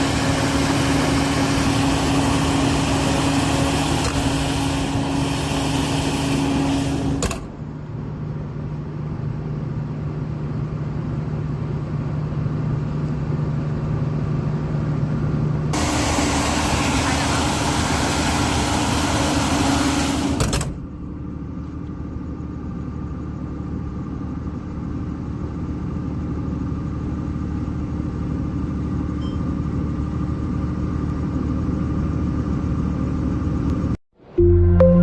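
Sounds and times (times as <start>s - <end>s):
diesel generator running: 0.0s - 35.0s.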